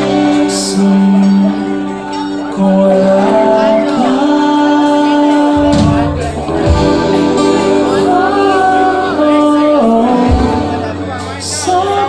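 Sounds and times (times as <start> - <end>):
live rock band playing: 0.0 - 12.0
low bass notes: 0.0 - 12.0
man singing lead vocal: 0.0 - 12.0.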